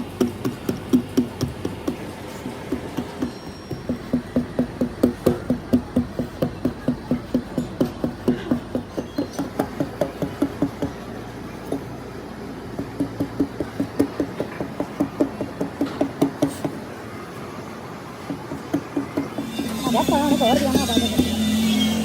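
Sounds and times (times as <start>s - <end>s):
rapid dull hammer blows: 0.0s - 12.0s, 12.7s - 16.8s, 18.2s - 22.0s.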